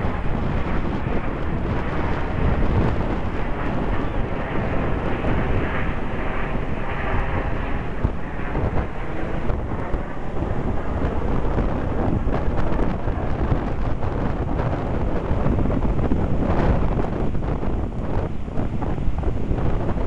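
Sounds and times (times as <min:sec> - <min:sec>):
distant jet noise: 0:00.0 - 0:20.0
wind buffeting microphone: 0:00.0 - 0:20.0.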